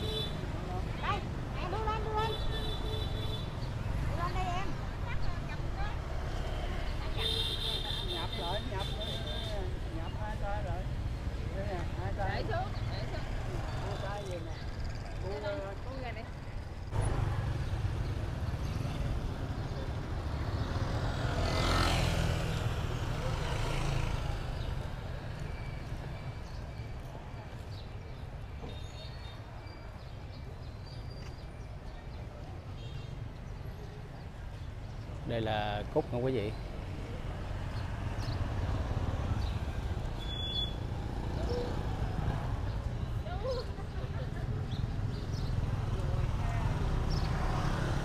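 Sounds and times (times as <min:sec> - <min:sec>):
passing traffic rumble: 0:00.0 - 0:28.6, 0:29.4 - 0:48.0.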